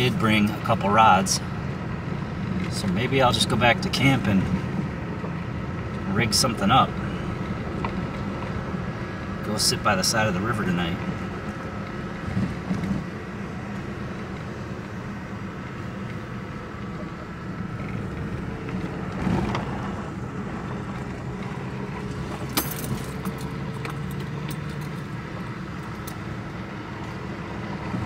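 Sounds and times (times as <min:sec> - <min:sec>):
pickup engine and road rumble: 0:00.0 - 0:28.0.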